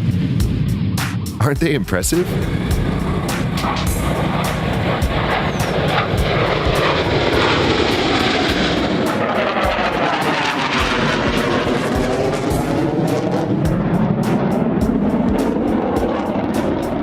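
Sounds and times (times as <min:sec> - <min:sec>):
jet fighters flying past: 0:00.0 - 0:17.0.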